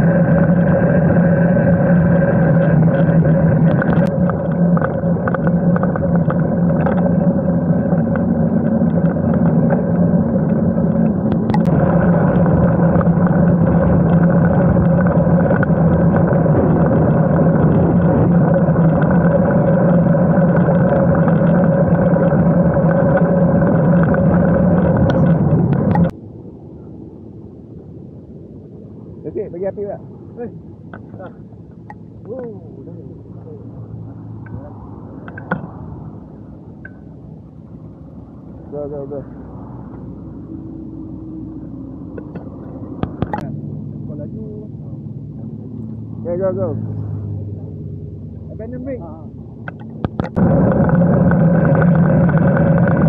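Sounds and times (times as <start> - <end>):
wind and rolling droning hum: 0.0 - 53.0.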